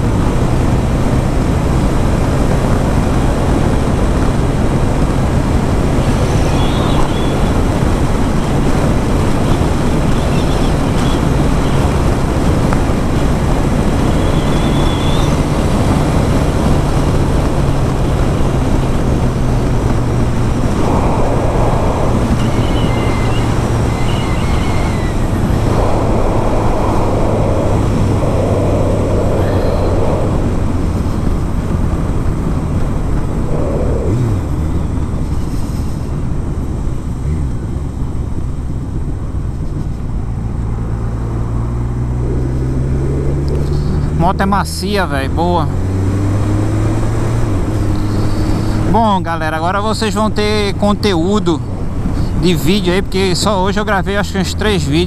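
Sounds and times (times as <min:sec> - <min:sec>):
motorcycle engine hum: 0:00.0 - 0:55.0
wind rushing over microphone: 0:00.0 - 0:55.0.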